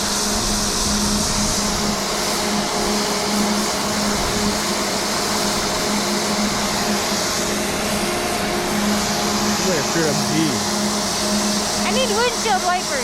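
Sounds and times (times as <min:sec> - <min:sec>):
rushing wind: 0:00.0 - 0:13.0.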